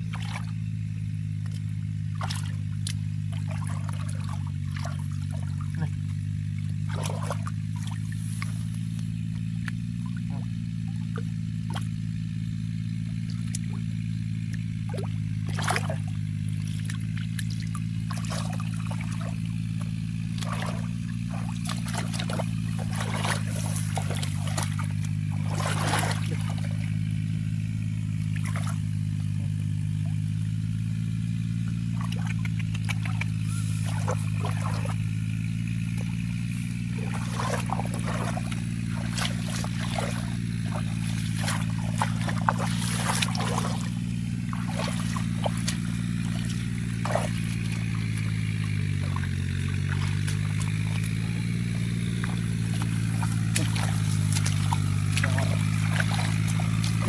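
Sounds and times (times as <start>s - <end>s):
water pouring and splashing: 0.0s - 0.6s, 1.4s - 12.0s, 14.8s - 57.0s
small engine running: 0.0s - 57.0s.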